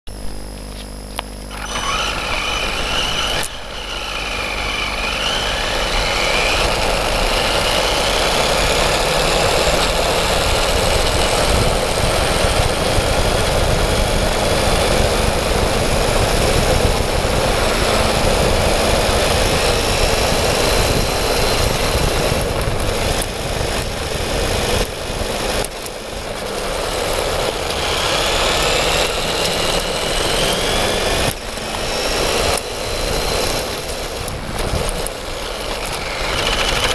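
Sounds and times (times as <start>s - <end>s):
electric motor whining: 0.1s - 36.9s
steady rushing noise: 0.1s - 36.9s.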